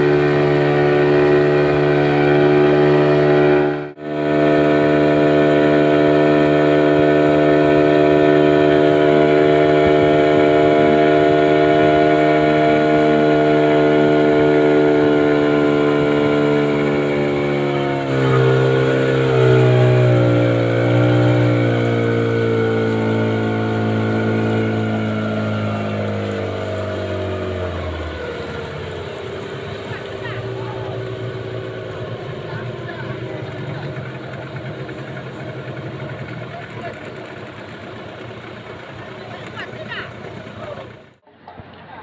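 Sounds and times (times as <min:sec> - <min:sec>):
motorboat engine running: 0:00.0 - 0:41.2.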